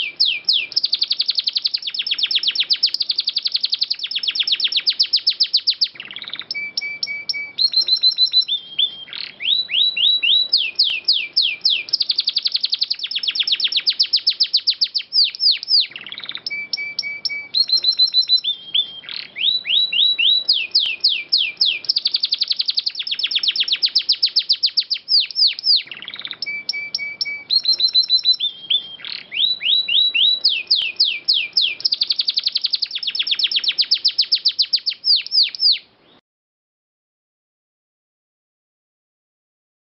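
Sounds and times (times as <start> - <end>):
canary singing trills: 0.0 - 36.2
short bird whistles: 0.0 - 36.2.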